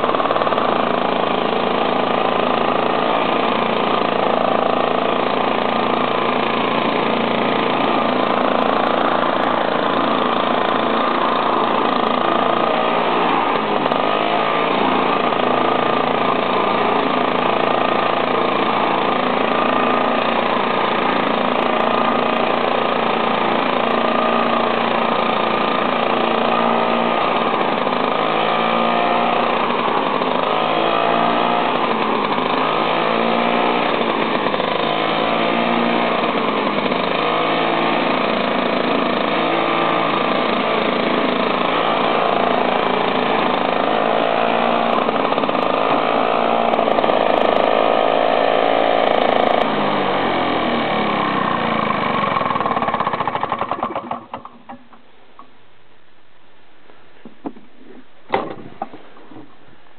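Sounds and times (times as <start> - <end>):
lawn mower running: 0.0 - 55.6, 57.1 - 59.9.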